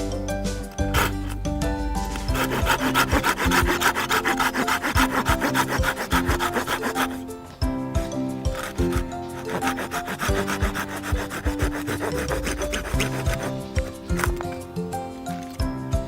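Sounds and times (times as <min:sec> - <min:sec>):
hand saw cutting wood: 0:00.7 - 0:14.7.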